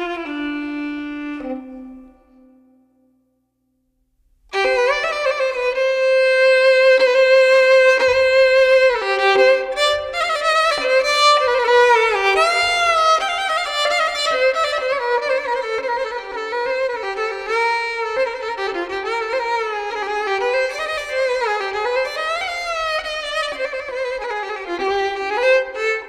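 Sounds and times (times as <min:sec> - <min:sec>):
slow violin melody: 0:00.0 - 0:02.8, 0:04.5 - 0:26.0.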